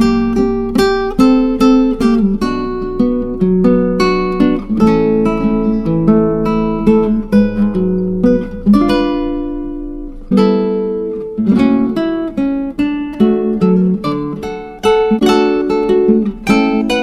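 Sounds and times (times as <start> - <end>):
plucked acoustic guitar: 0.0 - 17.0.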